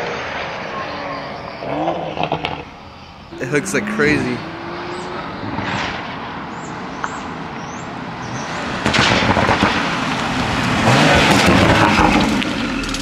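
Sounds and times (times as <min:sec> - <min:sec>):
car engine and exhaust: 0:00.4 - 0:13.0.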